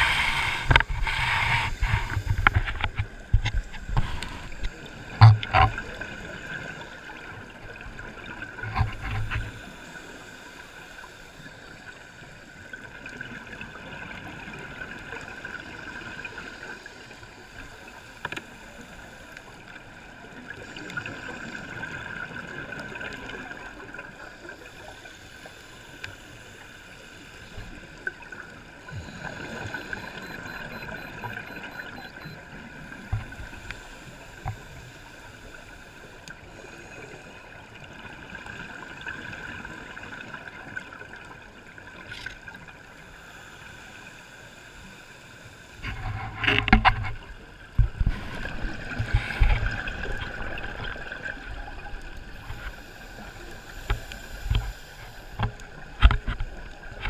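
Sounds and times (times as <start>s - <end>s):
muffled underwater ambience: 0.0s - 57.0s.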